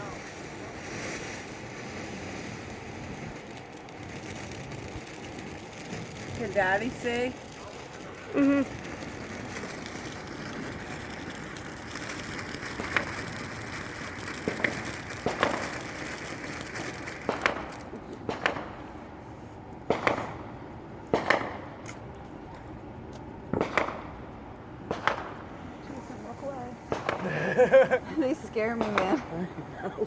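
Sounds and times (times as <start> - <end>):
steady hiss: 0.0 - 20.7, 25.3 - 30.0
fireworks popping and banging: 0.0 - 30.0.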